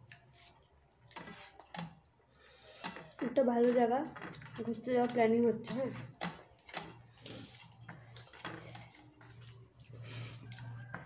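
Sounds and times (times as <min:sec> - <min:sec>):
hand mixing food on metal plate: 0:00.0 - 0:11.0.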